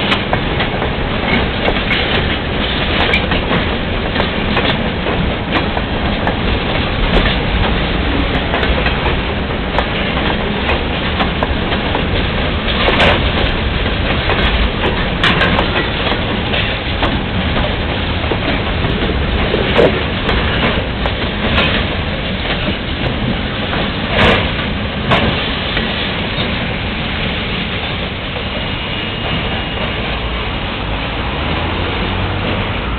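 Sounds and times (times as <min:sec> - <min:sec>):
train wheels clacking on rails: 0:00.0 - 0:32.9.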